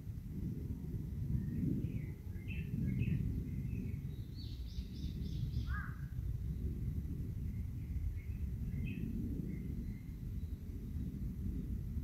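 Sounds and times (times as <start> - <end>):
steady low rumble: 0.0 - 12.0
wild birds chirping and singing: 1.1 - 11.9.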